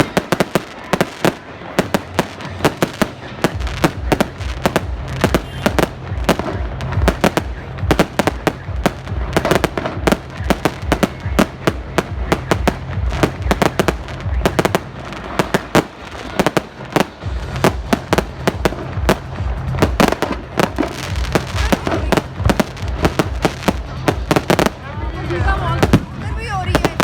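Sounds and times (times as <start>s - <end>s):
fireworks and firecrackers banging: 0.0s - 27.0s
low rumble: 3.3s - 27.0s.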